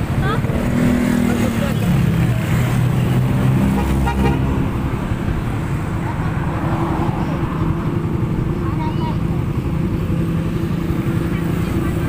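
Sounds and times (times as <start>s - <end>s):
road and wind noise: 0.0s - 12.0s
vehicle engine running: 0.0s - 12.0s.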